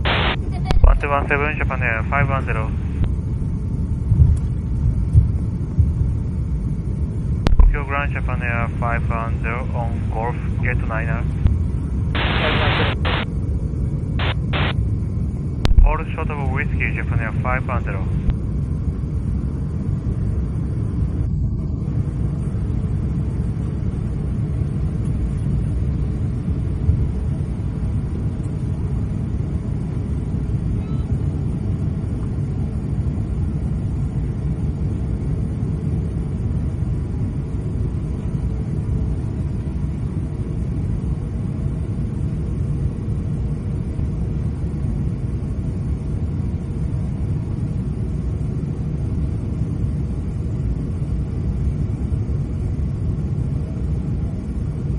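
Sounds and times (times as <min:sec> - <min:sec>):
low rumble in plane cabin: 0:00.0 - 0:54.9.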